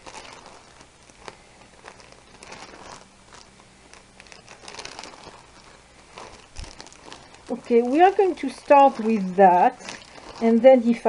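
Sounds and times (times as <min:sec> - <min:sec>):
plastic sleeves crinkling: 0:00.0 - 0:11.0.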